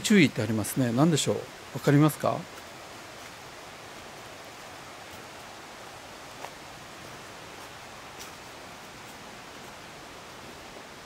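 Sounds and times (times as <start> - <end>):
mountain river rushing: 0.0 - 11.0.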